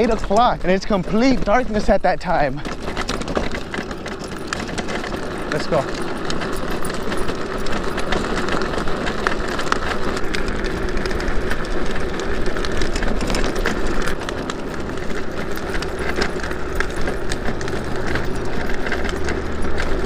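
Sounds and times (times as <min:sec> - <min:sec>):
plastic wheels rolling on asphalt: 0:00.0 - 0:20.0
small rattles and clicks: 0:00.0 - 0:20.0.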